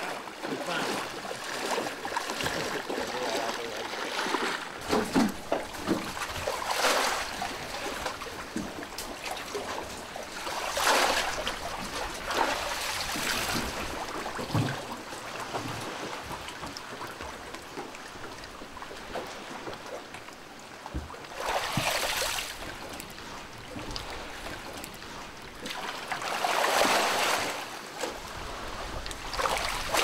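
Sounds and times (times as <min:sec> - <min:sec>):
shallow water splashing: 0:00.0 - 0:30.0.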